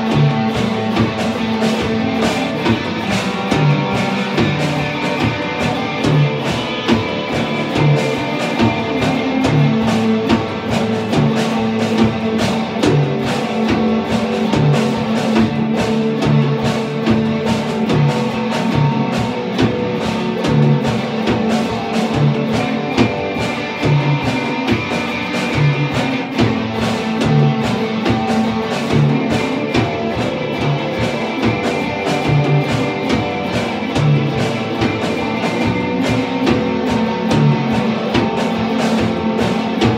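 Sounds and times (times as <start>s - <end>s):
drum hits: 0.0s - 39.9s
electric guitar chords: 0.0s - 39.9s.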